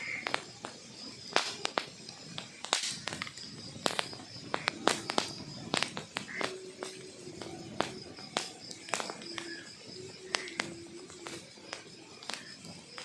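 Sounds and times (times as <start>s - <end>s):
wood logs crackling in fireplace: 0.0s - 13.0s.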